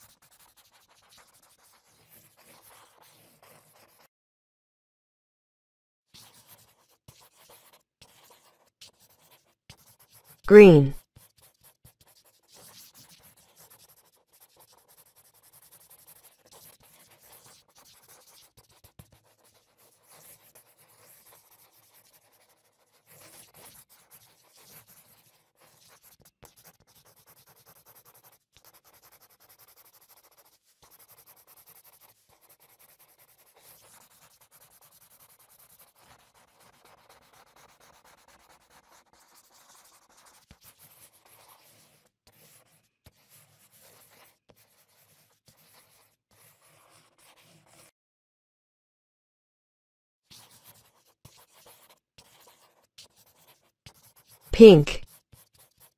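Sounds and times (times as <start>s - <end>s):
paintbrush rubbing on paper: 0.0s - 4.1s, 6.2s - 10.4s, 11.4s - 47.9s, 50.3s - 55.9s.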